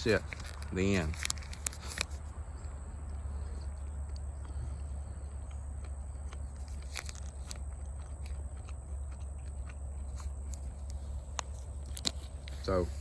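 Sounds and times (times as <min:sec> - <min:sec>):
low hum: 0:00.0 - 0:13.0
person chewing: 0:00.1 - 0:13.0.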